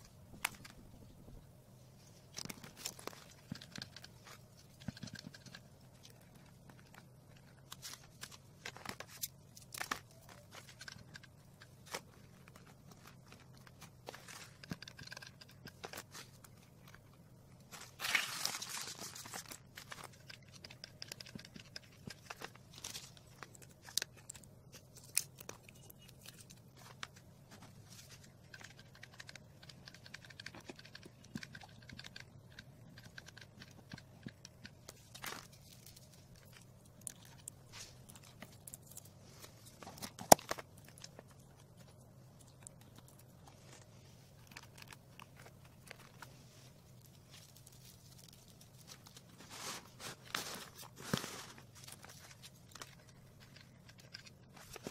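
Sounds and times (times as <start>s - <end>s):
crackling rustle: 0.0s - 54.9s
faint low hum: 0.0s - 54.9s
small clicks and rustles: 0.0s - 54.9s.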